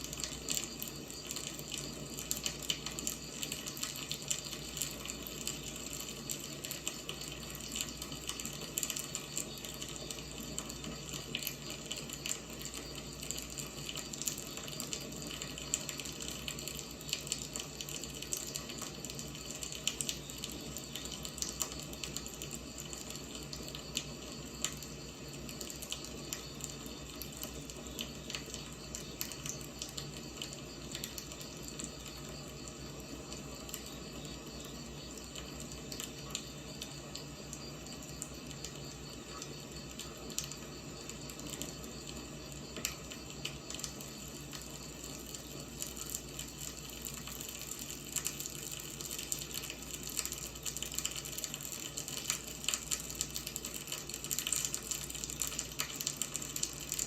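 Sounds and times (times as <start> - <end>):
burning logs crackling and popping: 0.0 - 57.0.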